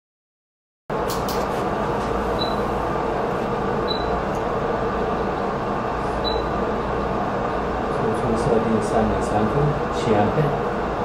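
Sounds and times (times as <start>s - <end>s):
electronics fan hum and hiss: 0.9s - 11.0s.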